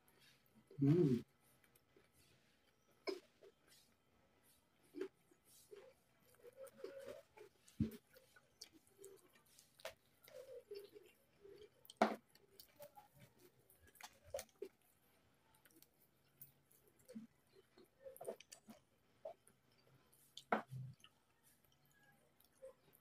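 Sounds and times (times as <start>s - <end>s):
chewing crispy meat: 0.0s - 23.0s.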